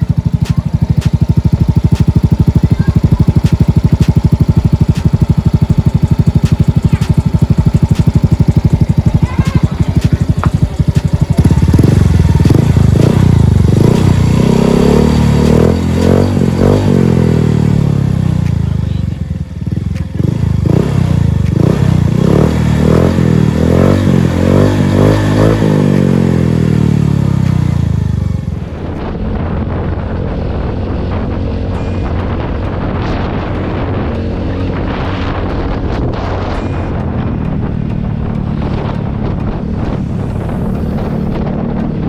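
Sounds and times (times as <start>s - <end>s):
scooter engine idling and revving: 0.0s - 42.0s.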